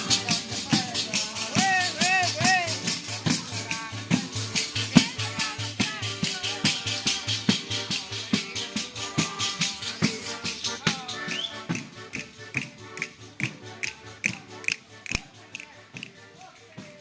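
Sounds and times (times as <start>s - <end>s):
music with shaken rattle beat: 0.0s - 17.0s.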